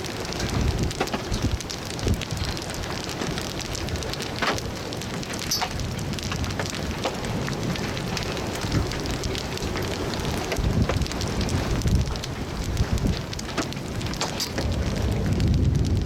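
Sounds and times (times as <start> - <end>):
raindrops ticking: 0.0 - 16.0
storm wind gusting: 0.0 - 16.0.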